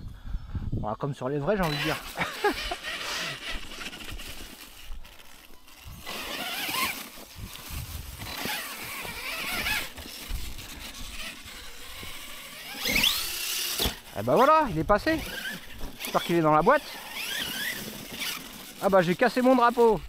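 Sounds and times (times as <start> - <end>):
electric motor whining: 1.6 - 20.0
tyre and chassis noise: 1.6 - 20.0.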